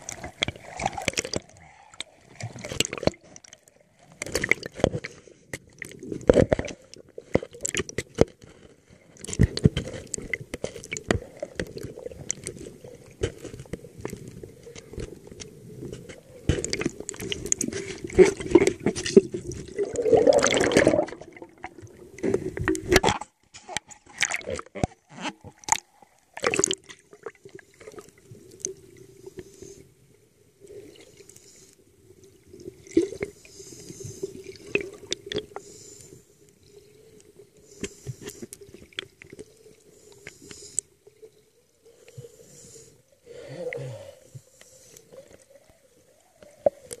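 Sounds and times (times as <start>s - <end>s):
underwater bubbling from divers: 0.0s - 8.2s, 8.9s - 23.0s, 24.0s - 47.0s.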